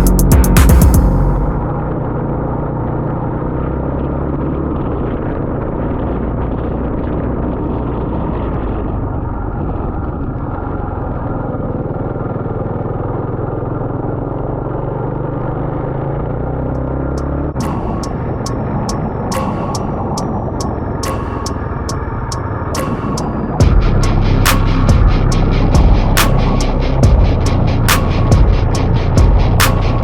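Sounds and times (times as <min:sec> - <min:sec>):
motorcycle engine drone: 0:00.0 - 0:30.0
wind and road noise: 0:01.2 - 0:30.0.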